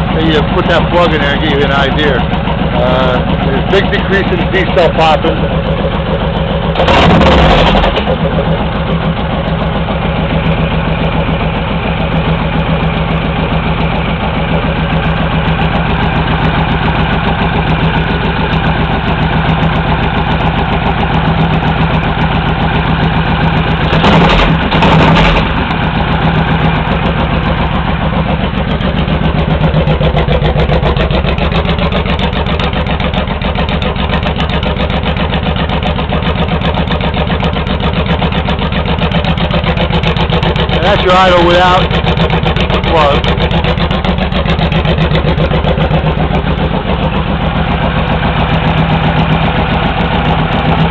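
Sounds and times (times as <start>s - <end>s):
motorcycle engine idling: 0.0s - 50.9s.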